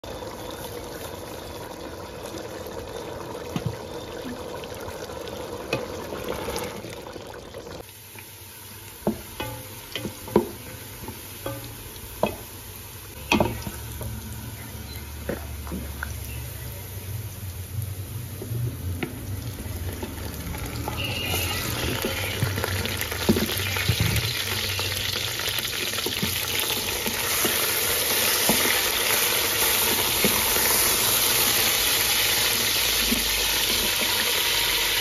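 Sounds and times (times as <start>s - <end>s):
food sizzling in a pot: 0.0s - 35.0s.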